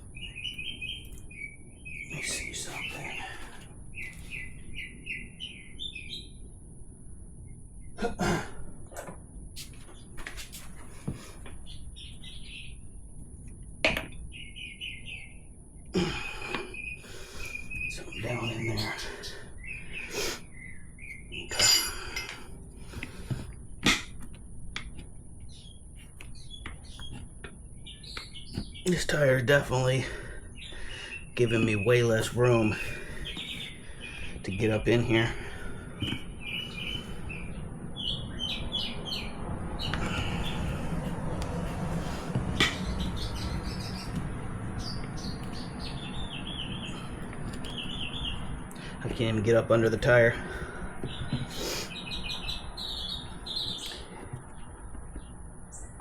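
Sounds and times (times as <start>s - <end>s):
small birds chirping: 0.0s - 6.7s, 9.6s - 56.0s
steady low hum: 0.0s - 56.0s.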